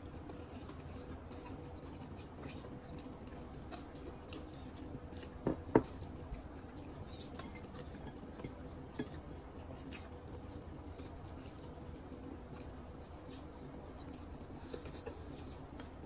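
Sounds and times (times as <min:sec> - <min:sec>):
wet chewing sounds: 0:00.0 - 0:16.0.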